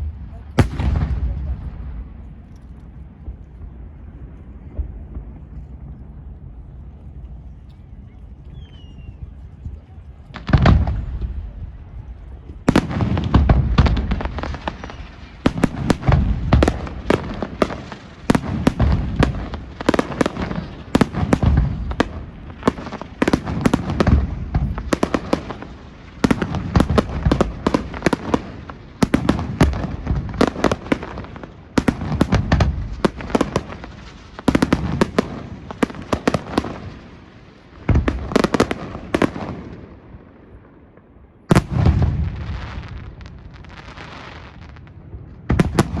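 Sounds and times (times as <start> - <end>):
fireworks booming and cracking: 0.0 - 7.0, 8.7 - 46.0.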